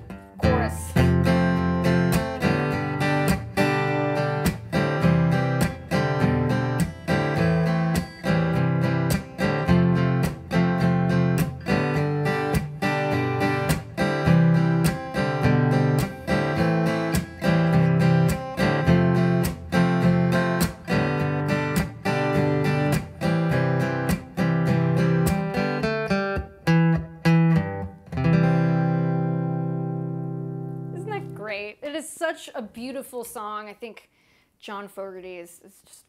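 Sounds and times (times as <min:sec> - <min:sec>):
acoustic guitar strumming: 0:00.0 - 0:31.5.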